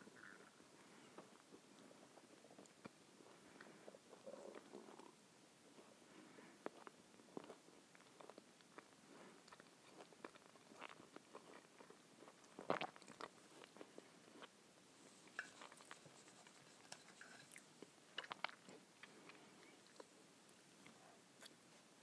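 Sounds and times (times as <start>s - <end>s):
quiet chewing: 0.1s - 21.9s.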